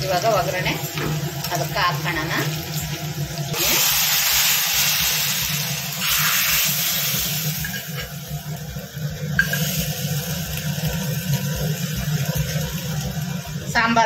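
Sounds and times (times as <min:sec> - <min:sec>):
hot oil hissing and sizzling: 0:00.0 - 0:14.0.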